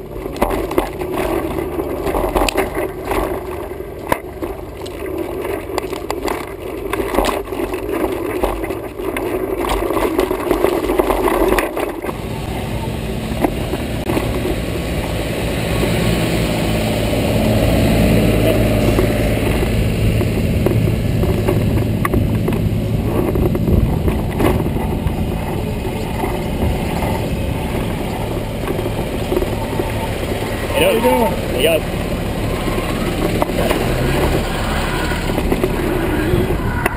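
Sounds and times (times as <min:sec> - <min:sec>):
bike rattling: 0:00.0 - 0:36.9
diesel engine humming: 0:00.0 - 0:36.9
wind noise: 0:00.0 - 0:36.9.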